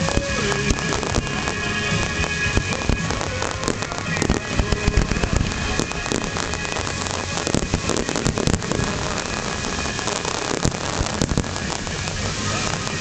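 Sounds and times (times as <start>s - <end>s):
fireworks bangs and crackling pops: 0.0s - 13.0s.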